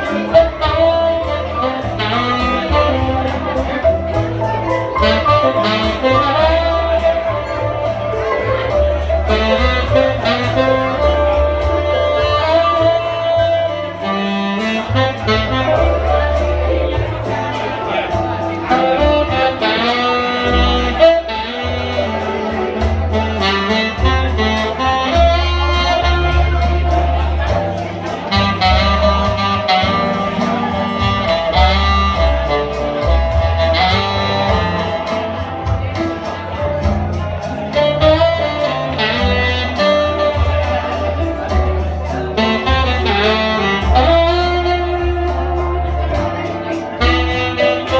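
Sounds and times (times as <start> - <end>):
backing track with bass and beat: 0.0 - 47.9
tenor saxophone melody: 0.0 - 47.9.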